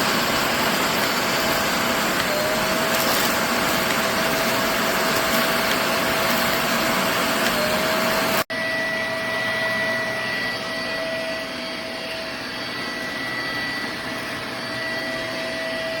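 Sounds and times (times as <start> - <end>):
stick vacuum motor whine: 0.0 - 16.0.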